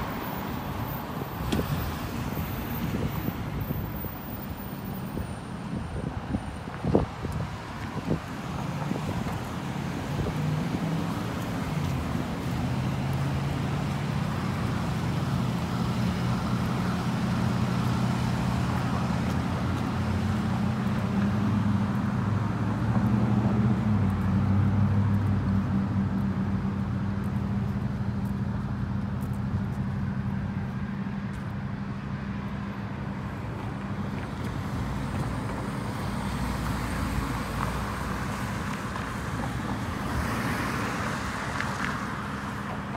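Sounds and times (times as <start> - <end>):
traffic noise: 0.0 - 42.9
vehicle engines humming: 0.0 - 42.9.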